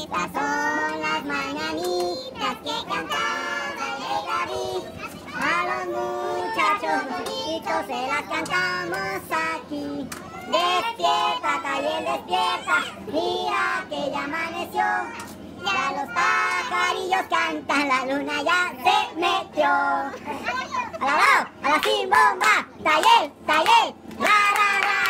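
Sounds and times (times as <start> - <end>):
group singing a celebration song: 0.0 - 20.2, 21.1 - 25.0.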